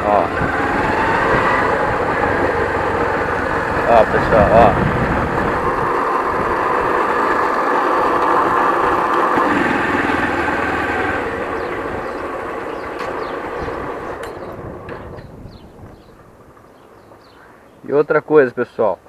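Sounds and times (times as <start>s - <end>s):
motorcycle engine whine: 0.0s - 17.8s.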